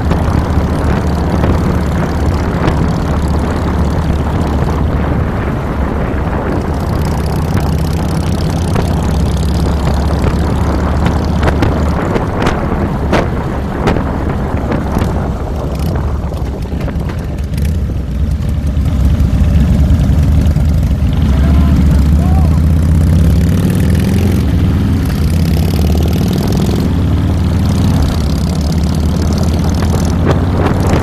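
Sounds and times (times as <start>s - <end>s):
motorcycle engine rumbling: 0.0s - 31.0s
wind rush on microphone: 0.0s - 31.0s.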